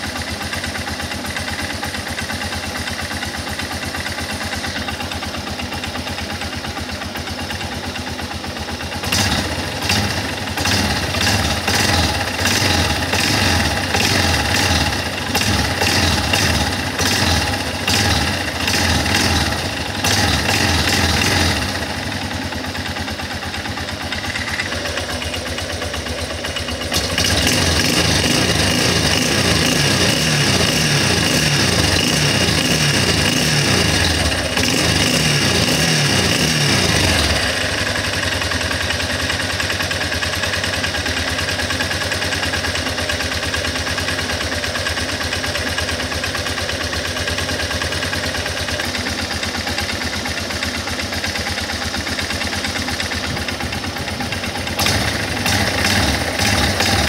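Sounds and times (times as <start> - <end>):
atv engine idling and revving: 0.0 - 57.0.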